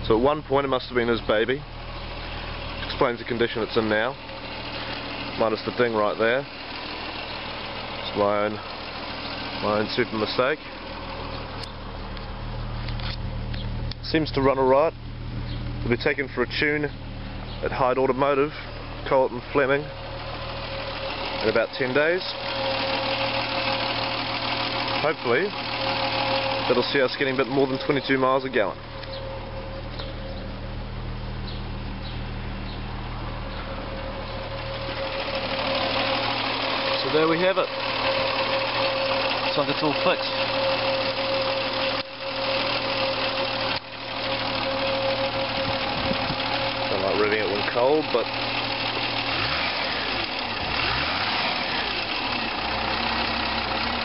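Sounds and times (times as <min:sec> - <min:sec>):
car engine idling: 0:00.0 - 0:54.0
car engine revving: 0:00.0 - 0:54.0.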